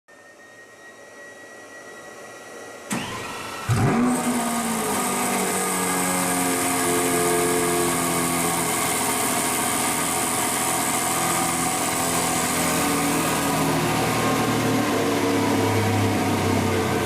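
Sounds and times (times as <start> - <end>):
car engine starting and idling: 2.9 - 17.0.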